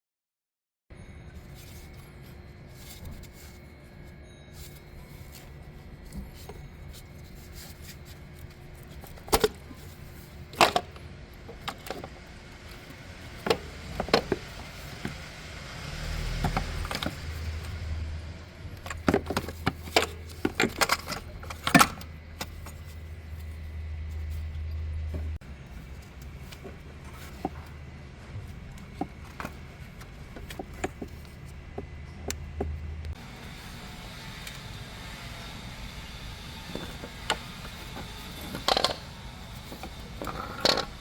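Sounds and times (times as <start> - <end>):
low steady hum: 0.9 - 41.0.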